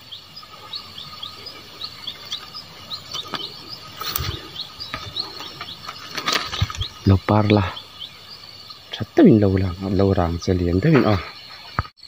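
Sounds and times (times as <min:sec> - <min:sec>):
birds chirping: 0:00.0 - 0:12.0
faint insect-like drone: 0:00.0 - 0:12.0.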